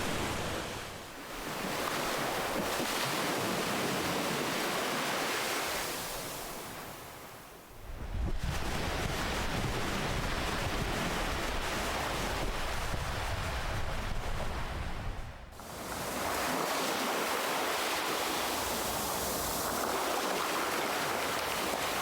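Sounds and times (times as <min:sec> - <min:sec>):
ocean waves breaking: 0:00.0 - 0:07.2, 0:07.8 - 0:22.0.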